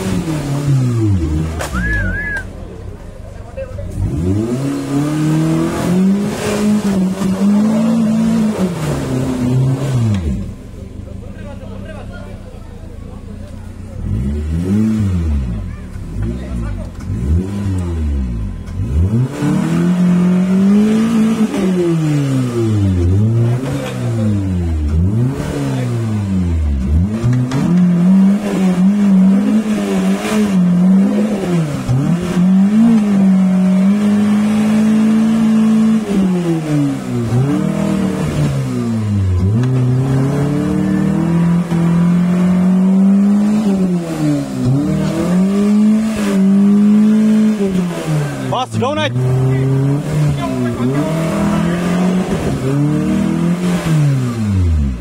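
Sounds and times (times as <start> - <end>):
jeep engine revving hard: 0.0 - 2.4, 3.8 - 10.6, 13.9 - 55.0.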